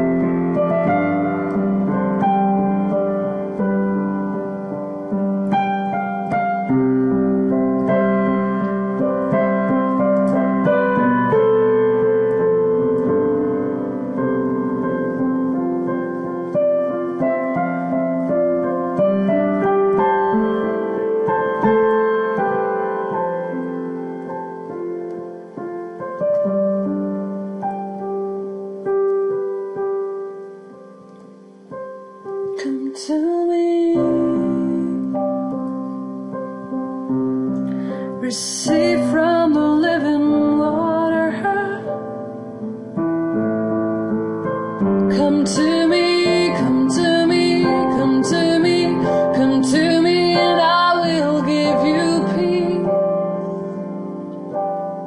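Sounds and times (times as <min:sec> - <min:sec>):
solo piano chords and melody: 0:00.0 - 0:55.0.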